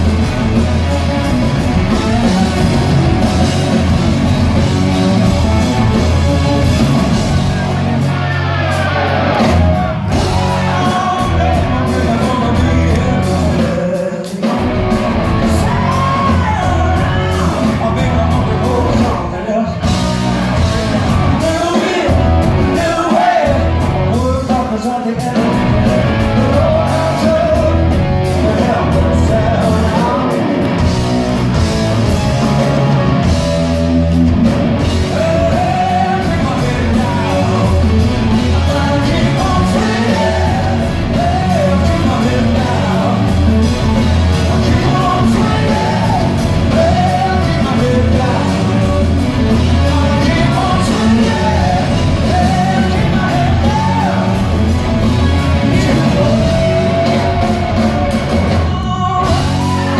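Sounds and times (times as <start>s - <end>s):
live rock band: 0.0s - 59.9s
male lead singer: 0.0s - 59.9s.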